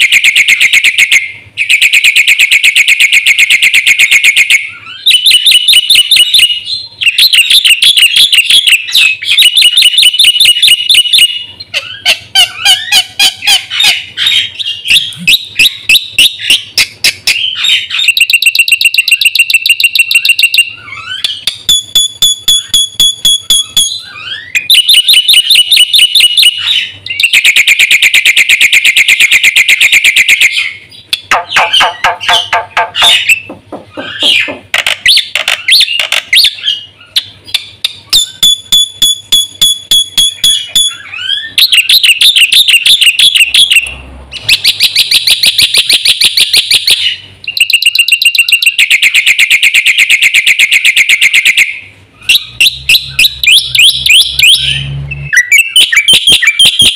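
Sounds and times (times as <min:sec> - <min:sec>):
bird singing trills and whistles: 0:00.0 - 0:56.9.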